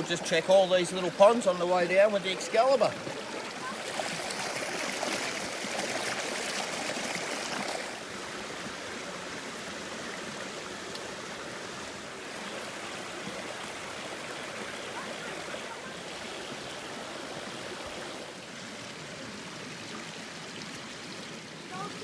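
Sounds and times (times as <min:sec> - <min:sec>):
creek water splashing over rocks: 0:00.0 - 0:22.0.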